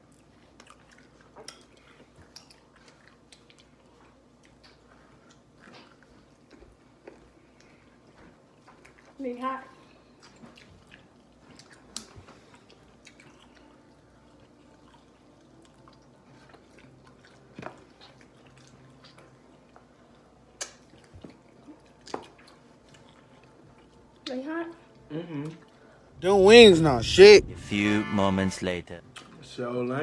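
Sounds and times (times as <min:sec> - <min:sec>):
people chewing: 0:00.0 - 0:09.2, 0:09.8 - 0:26.1.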